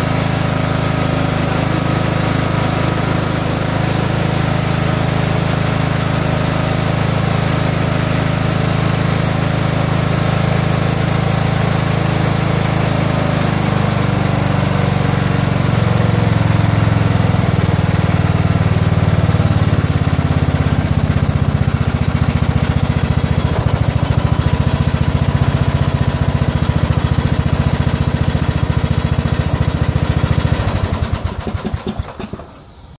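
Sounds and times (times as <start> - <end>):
riding mower engine running: 0.0 - 33.0.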